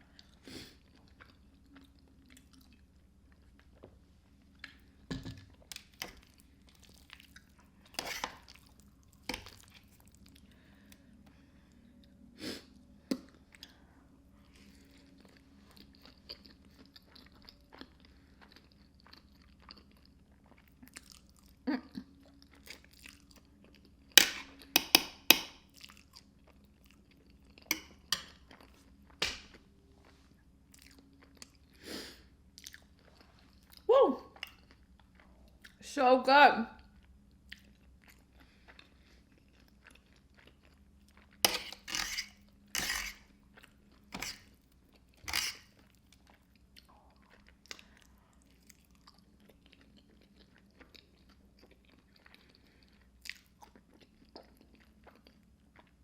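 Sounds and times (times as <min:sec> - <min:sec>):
close-up chewing: 0:00.0 - 0:35.8, 0:36.9 - 0:56.0.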